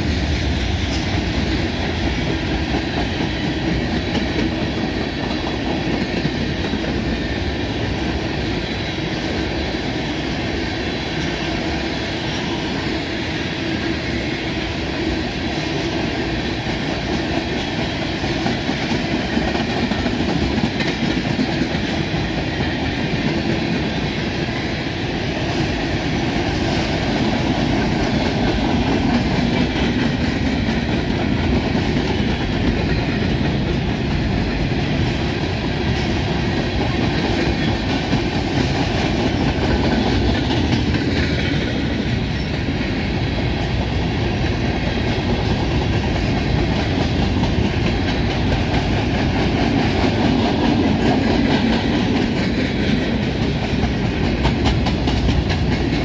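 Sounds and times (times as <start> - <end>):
freight train rolling past: 0.0 - 56.0.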